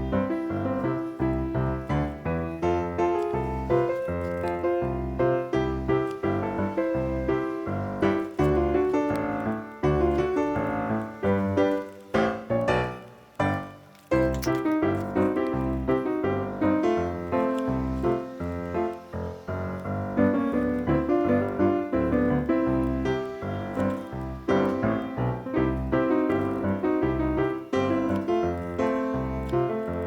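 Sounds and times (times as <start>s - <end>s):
upbeat piano tune with bass: 0.0s - 30.0s.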